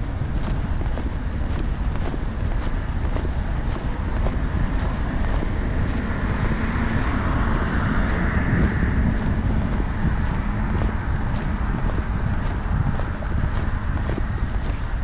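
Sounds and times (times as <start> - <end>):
traffic noise: 0.0 - 15.0
wind rumbling on microphones: 0.0 - 15.0.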